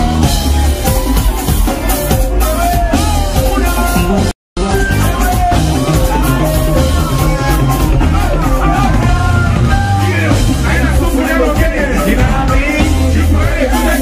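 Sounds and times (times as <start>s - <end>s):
live band with drums and singer: 0.0s - 14.0s.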